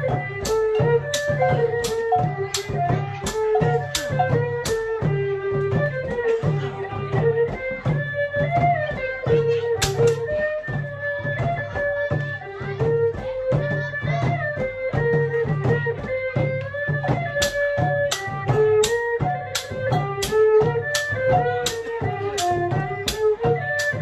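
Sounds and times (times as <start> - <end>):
long drums beating: 0.0 - 24.0.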